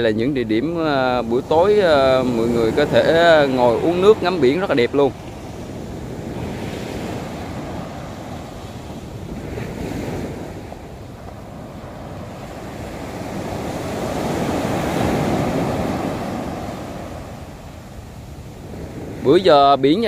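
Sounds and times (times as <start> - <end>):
surf breaking on beach: 0.0 - 20.0
wind rumbling on microphone: 0.0 - 20.0.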